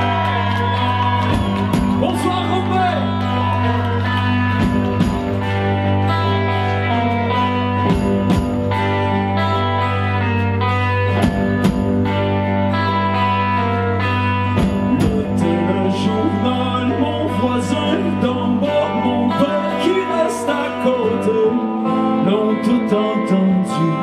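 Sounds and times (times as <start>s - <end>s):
guitars playing: 0.0s - 24.0s
live band music: 0.0s - 24.0s.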